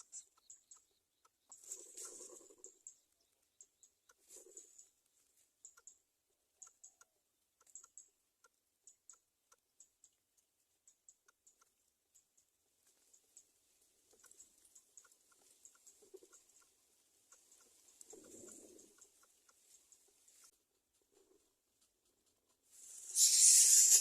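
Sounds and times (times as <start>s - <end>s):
faint irregular clicking: 0.0s - 24.0s.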